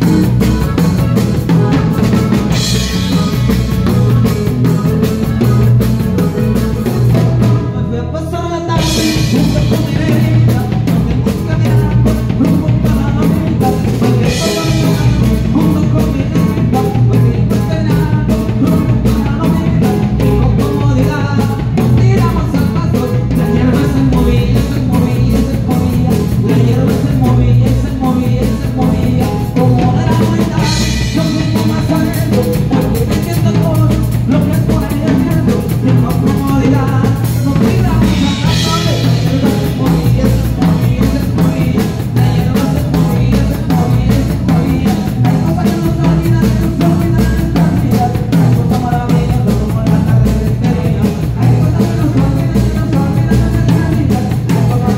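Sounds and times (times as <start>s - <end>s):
drum kit beat: 0.0s - 7.8s, 8.7s - 54.9s
live band playing: 0.0s - 54.9s.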